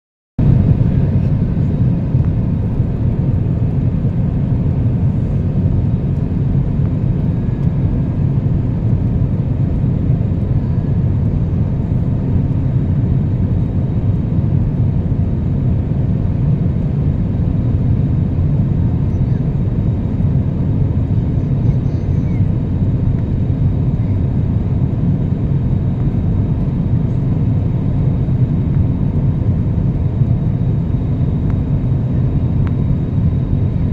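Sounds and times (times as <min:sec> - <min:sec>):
airplane engines rumbling: 0:00.4 - 0:33.9.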